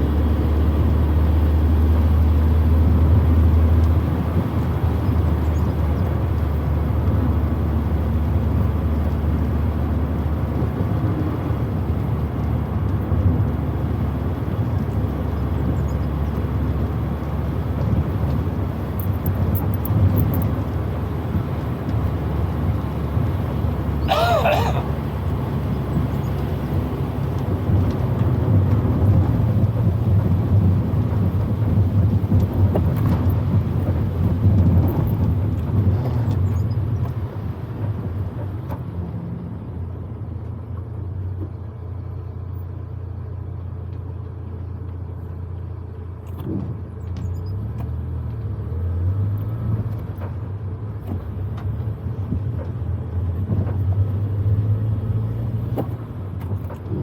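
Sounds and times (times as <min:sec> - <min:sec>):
car engine droning under load: 0:00.0 - 0:57.0
road noise: 0:00.0 - 0:57.0.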